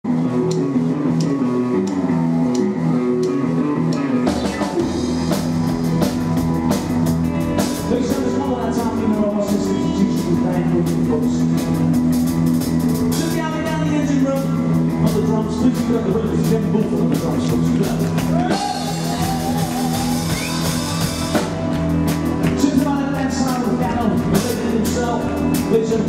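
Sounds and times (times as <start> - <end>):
rockabilly band playing: 0.1 - 26.0.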